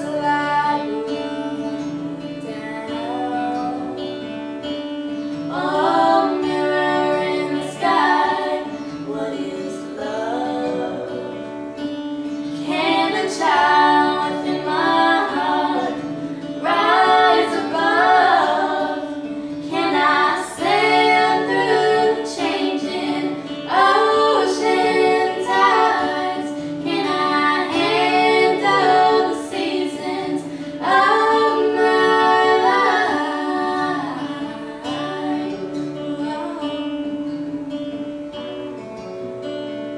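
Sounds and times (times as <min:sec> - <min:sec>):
woman singing: 0:00.0 - 0:04.4, 0:05.5 - 0:11.6, 0:12.5 - 0:38.1.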